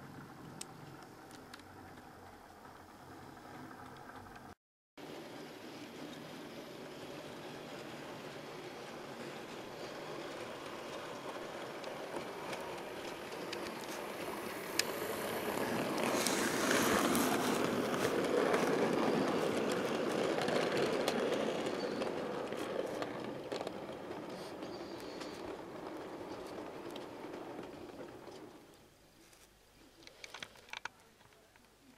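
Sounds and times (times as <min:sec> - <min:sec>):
model train running rumble: 0:00.0 - 0:28.8
wheels clicking over rail joints: 0:00.0 - 0:29.0.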